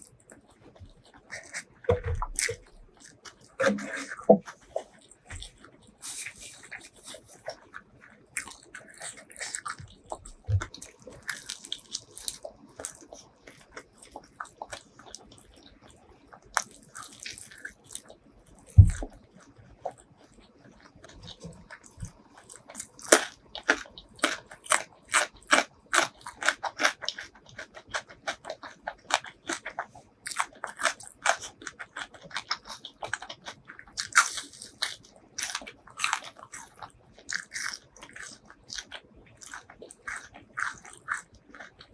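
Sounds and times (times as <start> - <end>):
chewing crispy food: 0.0 - 41.9.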